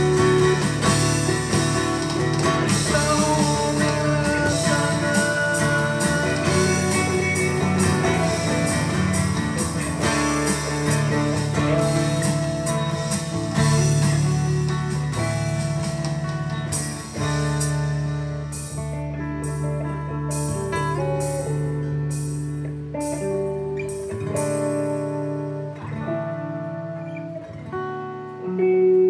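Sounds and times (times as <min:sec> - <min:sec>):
electronic drum beat: 0:00.0 - 0:23.3
guitar ringing held notes: 0:00.0 - 0:29.0.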